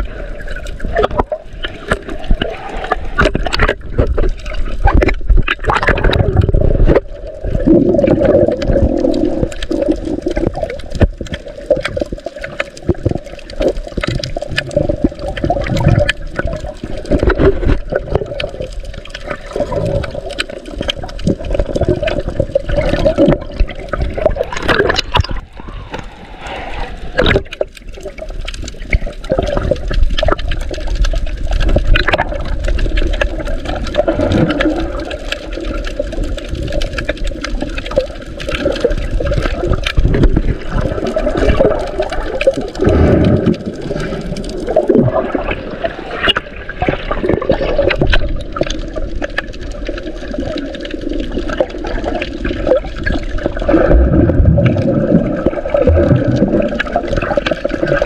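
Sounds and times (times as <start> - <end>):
muffled underwater water rushing: 0.0 - 58.0.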